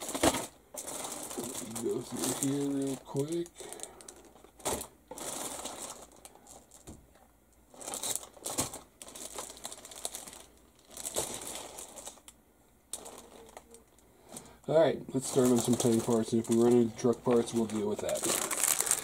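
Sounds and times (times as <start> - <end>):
plastic packaging crinkling: 0.0 - 7.0, 7.7 - 14.0, 15.2 - 19.0.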